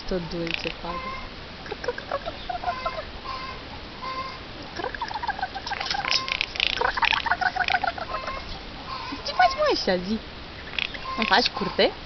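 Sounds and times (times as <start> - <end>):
jay calling: 0.2 - 11.9.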